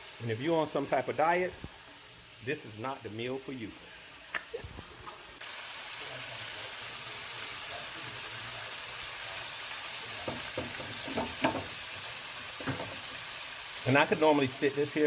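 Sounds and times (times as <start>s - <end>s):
chicken sizzling in deep fryer: 0.0s - 15.0s.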